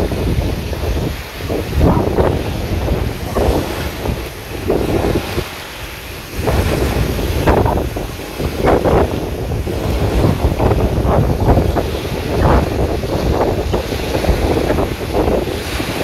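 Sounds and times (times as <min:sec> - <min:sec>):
small waves splashing on pebbles: 0:00.0 - 0:16.0
wind rumbling on microphone: 0:00.0 - 0:16.0.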